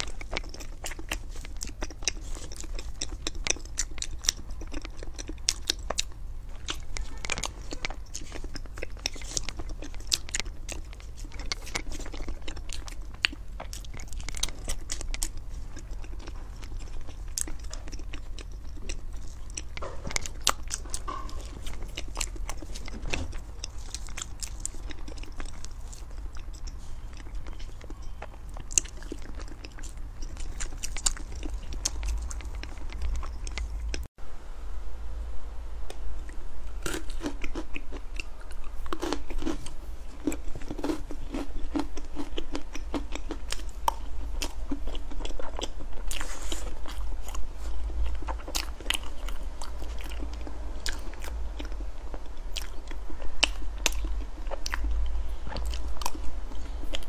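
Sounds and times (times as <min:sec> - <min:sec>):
person chewing and swallowing: 0:00.0 - 0:34.1, 0:35.9 - 0:57.0
steady low hum: 0:00.0 - 0:57.0.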